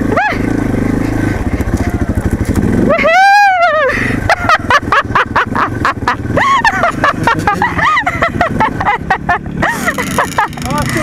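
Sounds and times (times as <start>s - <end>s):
dirt bike engine running slowly: 0.0s - 11.0s.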